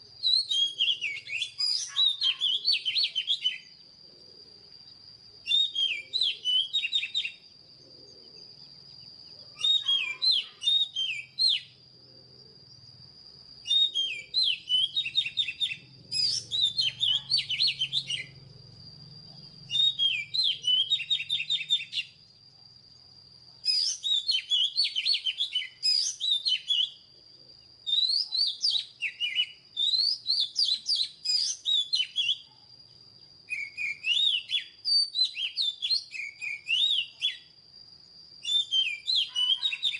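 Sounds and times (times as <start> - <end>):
bird singing whistled notes: 0.0 - 4.0, 4.6 - 11.8, 12.9 - 39.9.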